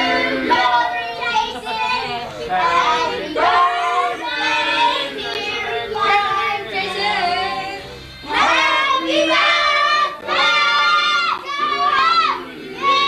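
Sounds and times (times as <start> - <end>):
child singing: 0.0 - 13.0
group of people singing: 0.0 - 13.0.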